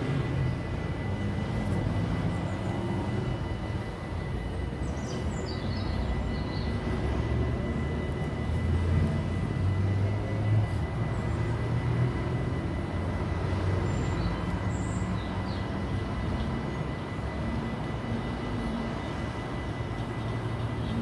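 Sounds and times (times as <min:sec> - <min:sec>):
low rumble of traffic: 0:00.0 - 0:21.0
thin steady high tone: 0:00.0 - 0:21.0.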